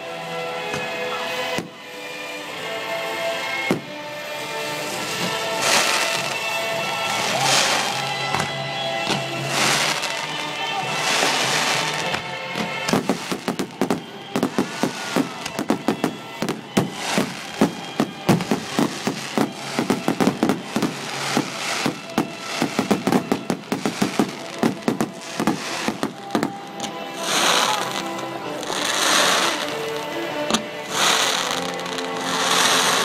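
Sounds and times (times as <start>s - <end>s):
fireworks banging and crackling: 0.6s - 33.0s.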